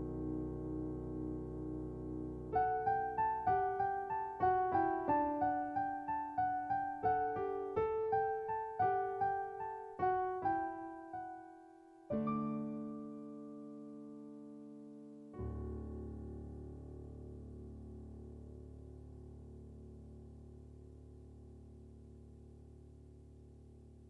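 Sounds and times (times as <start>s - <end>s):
electric piano melody: 0.0s - 19.6s.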